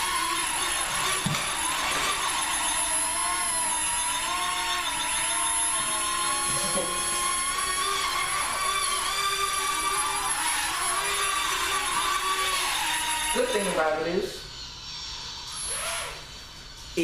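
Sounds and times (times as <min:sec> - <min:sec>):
quadcopter propellers whining: 0:00.0 - 0:14.0.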